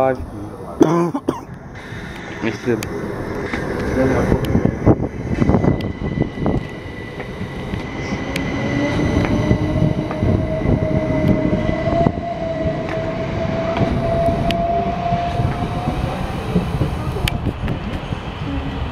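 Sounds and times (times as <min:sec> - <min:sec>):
train traction motor whine: 0:01.5 - 0:18.9
wheel and rail rumble: 0:01.5 - 0:18.9.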